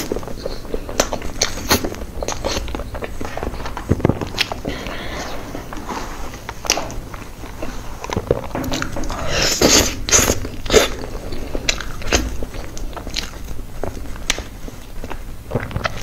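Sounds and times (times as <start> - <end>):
wet chewing and lip smacks: 0.0 - 5.1, 5.7 - 16.0.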